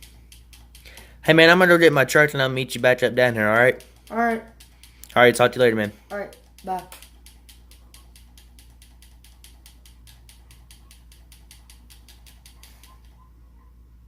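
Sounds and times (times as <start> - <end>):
rapid mechanical clicking: 0.0 - 13.1.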